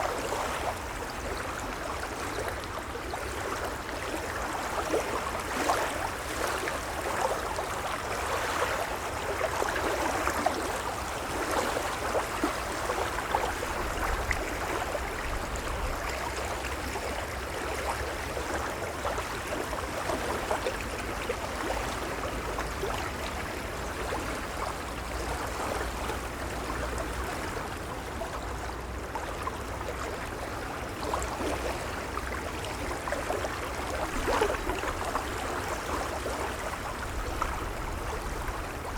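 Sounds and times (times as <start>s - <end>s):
waves lapping ashore: 0.0s - 38.9s.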